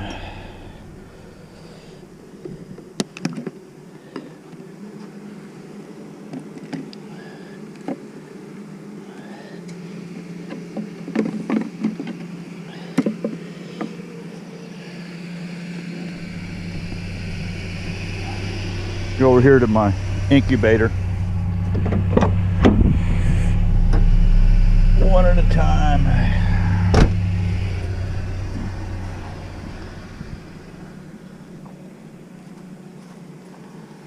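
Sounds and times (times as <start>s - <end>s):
honeybees humming: 0.0s - 34.0s
lower hum: 0.0s - 34.0s.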